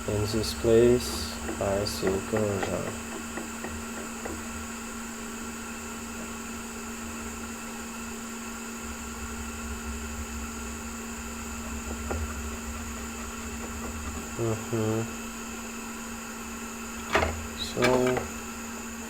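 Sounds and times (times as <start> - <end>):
machine hum and whirr: 0.0 - 19.0.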